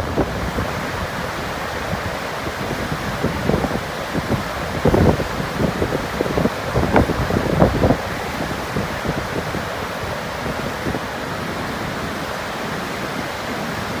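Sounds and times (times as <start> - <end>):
water rushing through dam: 0.0 - 14.0
wind buffeting microphone: 0.0 - 14.0.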